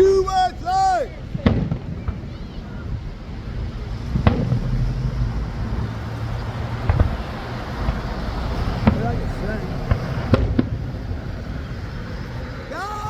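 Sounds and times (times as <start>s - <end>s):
low rumble: 0.0s - 12.5s
fireworks bangs: 0.0s - 13.0s.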